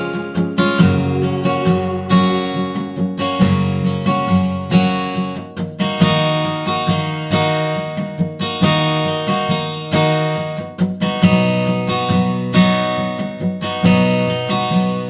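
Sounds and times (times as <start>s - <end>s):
strummed acoustic guitar music: 0.0s - 15.0s.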